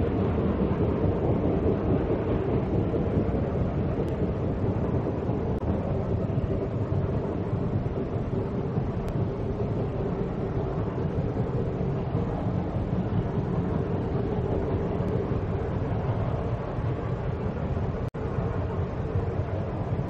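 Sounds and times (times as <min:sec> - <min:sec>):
steam train rumbling: 0:00.0 - 0:20.0.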